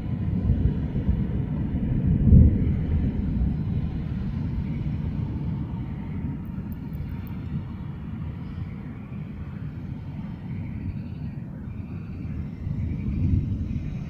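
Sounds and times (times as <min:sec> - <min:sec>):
thunder rumbling: 0:00.0 - 0:10.9, 0:11.8 - 0:14.0.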